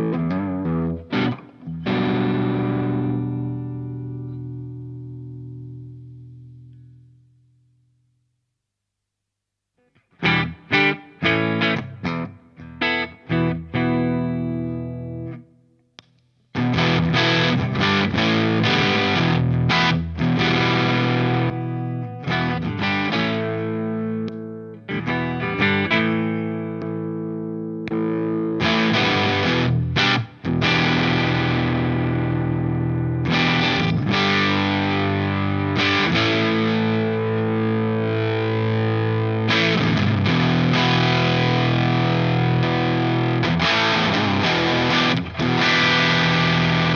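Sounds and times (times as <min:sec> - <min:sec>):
overdriven electric guitar: 0:00.0 - 0:07.5, 0:09.8 - 0:46.9.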